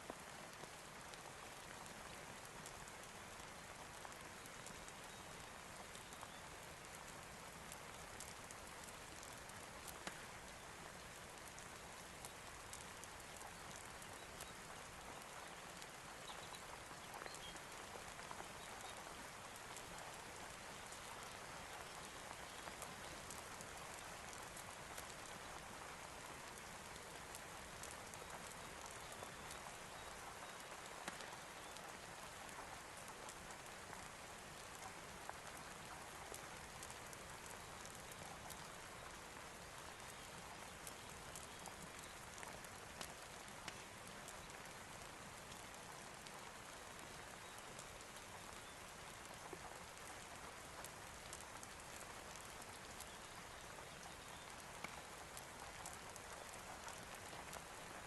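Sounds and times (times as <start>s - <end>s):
raindrop ticks: 0.0s - 58.0s
steady rain: 0.0s - 58.0s.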